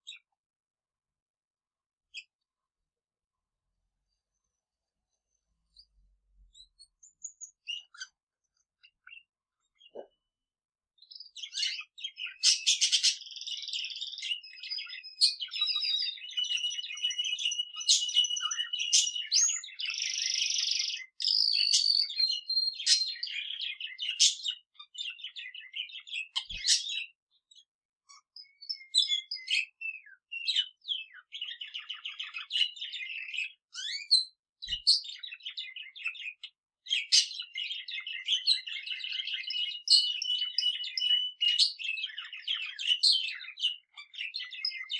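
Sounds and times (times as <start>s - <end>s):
canary singing: 5.7s - 10.3s, 11.0s - 44.9s.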